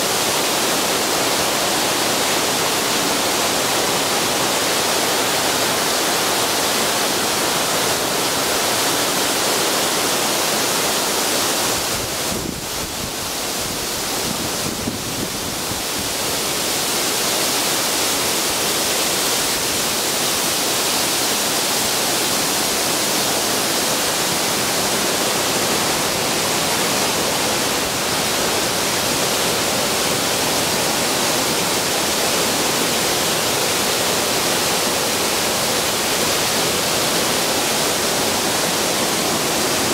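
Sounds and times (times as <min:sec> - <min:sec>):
waterfall roar: 0:00.0 - 0:39.9.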